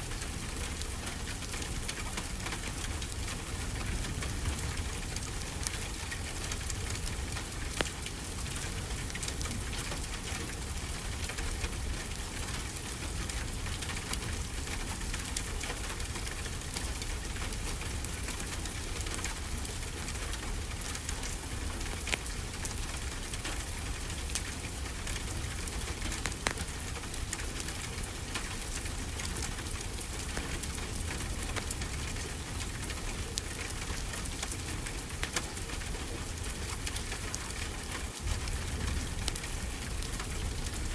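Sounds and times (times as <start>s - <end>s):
steady rainfall: 0.0s - 40.9s
wood fire crackling and popping: 0.2s - 40.9s.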